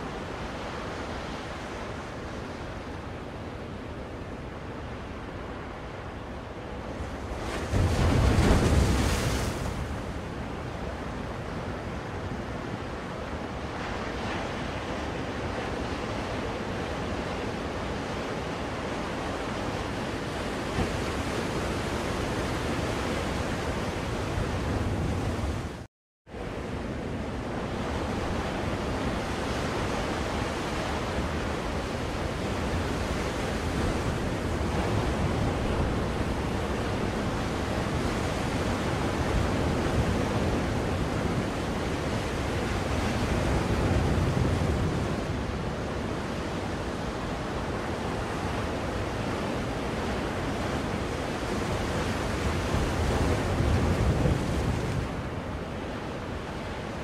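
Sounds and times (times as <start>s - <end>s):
ocean surf waves: 0.0s - 57.0s.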